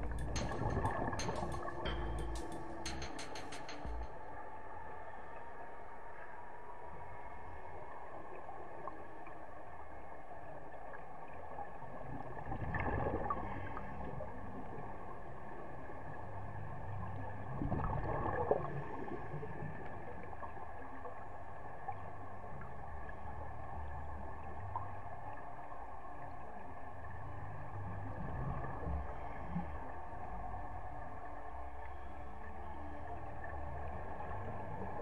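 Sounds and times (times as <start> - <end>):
faint underwater hum: 0.0 - 35.0.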